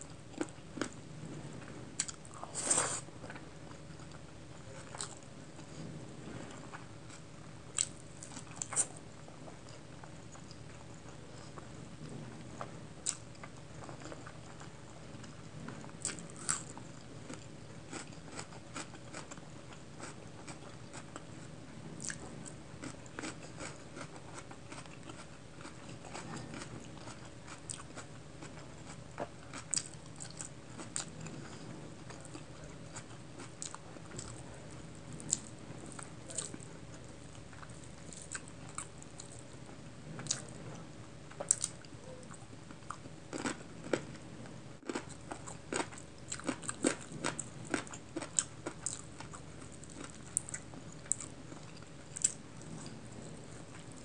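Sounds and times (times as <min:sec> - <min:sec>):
chewing with sharp crunches: 0:00.0 - 0:54.0.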